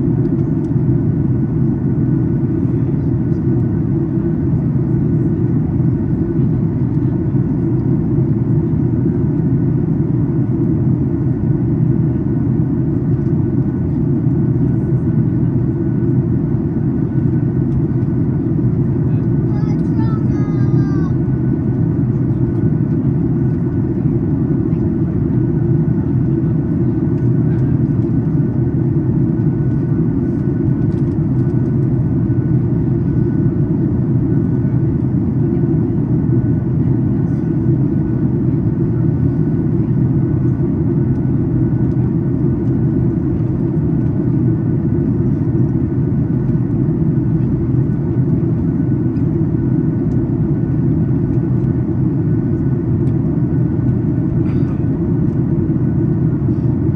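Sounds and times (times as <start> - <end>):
airliner cabin rumble: 0.0 - 56.9.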